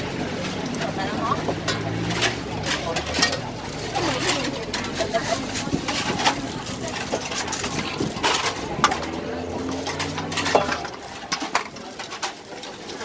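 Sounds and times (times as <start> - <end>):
metal ladle scraping a steel bowl: 0.3 - 12.9.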